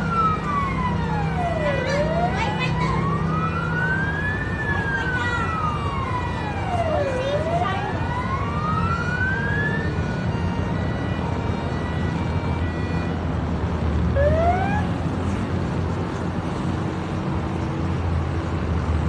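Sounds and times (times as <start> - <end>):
emergency siren rising: 0.0 - 15.4.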